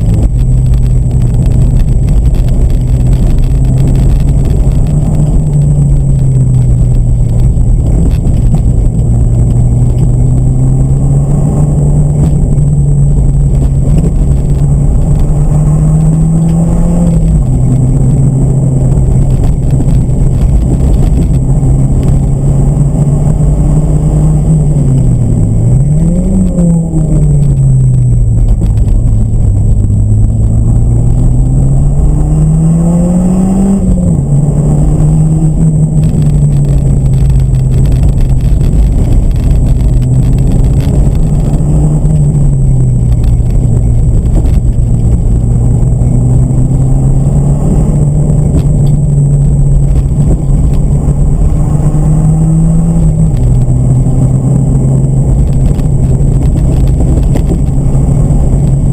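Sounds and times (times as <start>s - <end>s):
car engine revving: 0.0s - 58.9s
road noise rumble: 0.0s - 58.9s.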